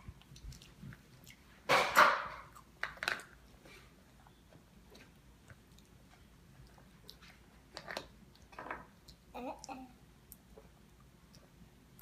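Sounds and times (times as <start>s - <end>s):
utensil sounds while eating: 0.0s - 12.0s.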